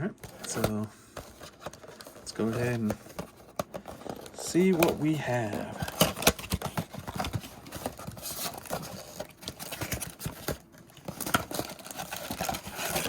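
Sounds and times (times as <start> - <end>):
cardboard box and packs rustling: 0.0 - 13.0.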